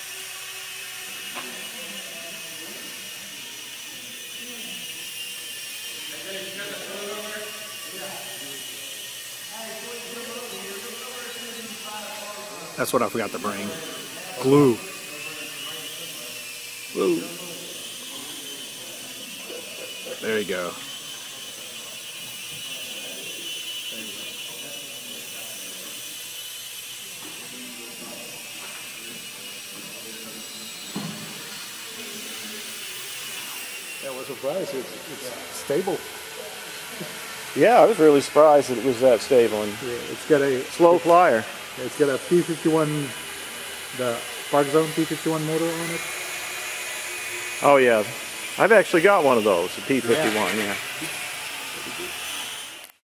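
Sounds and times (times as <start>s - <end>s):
small electric motor and propeller whining: 0.0s - 53.0s
faint voices murmuring: 1.1s - 52.3s.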